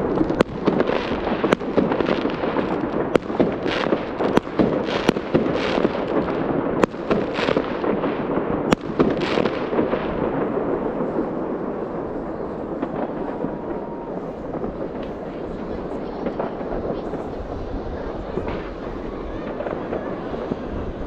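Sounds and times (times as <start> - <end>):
fireworks bangs and crackles: 0.0 - 21.0
sharp firework cracks: 0.0 - 21.0.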